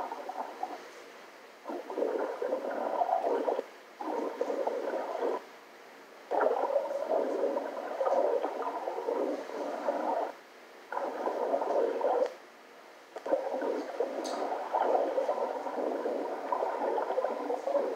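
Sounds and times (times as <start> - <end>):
muffled underwater gurgling and bubbling: 0.0 - 0.9, 1.6 - 5.5, 6.3 - 12.4, 13.2 - 17.9.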